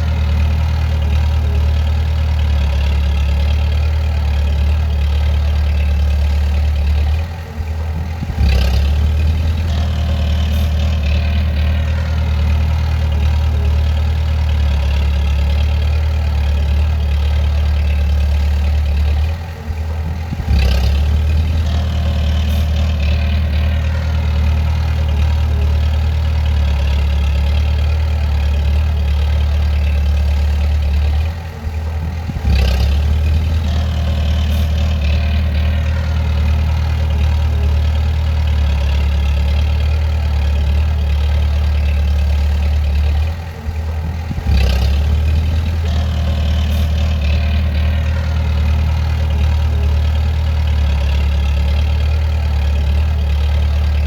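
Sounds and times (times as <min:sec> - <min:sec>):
diesel engine running: 0:00.0 - 0:54.0
engine knock: 0:00.0 - 0:54.0.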